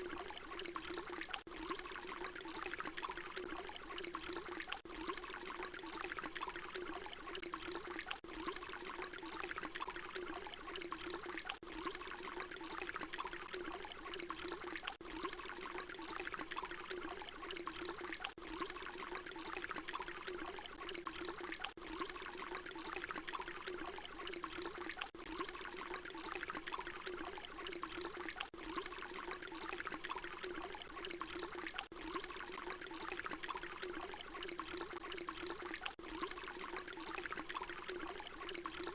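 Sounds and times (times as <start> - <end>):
water pouring and splashing: 0.0 - 38.9.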